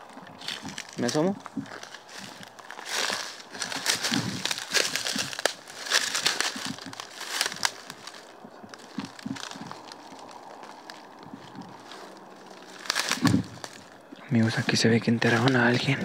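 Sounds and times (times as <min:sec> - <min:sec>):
dry reeds crackling underfoot: 0:00.0 - 0:16.0.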